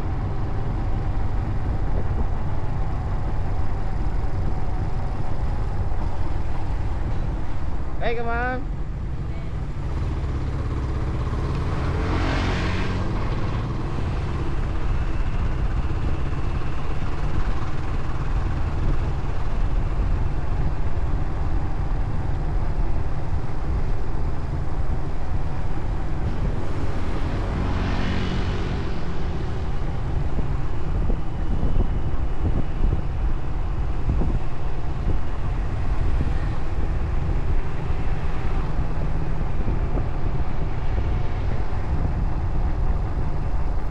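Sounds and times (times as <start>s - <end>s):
motorcycle engine rumble: 0.0s - 43.9s
road and wind noise: 0.0s - 43.9s.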